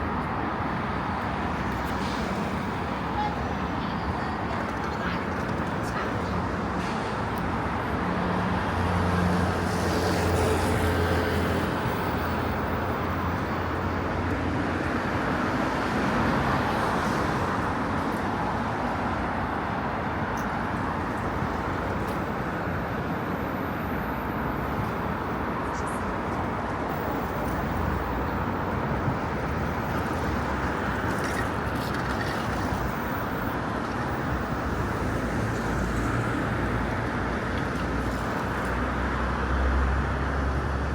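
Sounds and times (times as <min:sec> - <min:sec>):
cars passing: 0:00.0 - 0:40.9.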